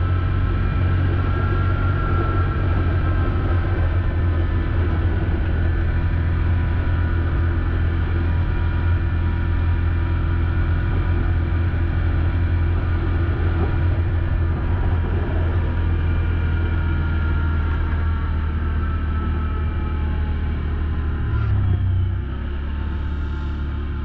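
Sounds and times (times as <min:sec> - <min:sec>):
snowmobile engine drone and whine: 0:00.0 - 0:24.0.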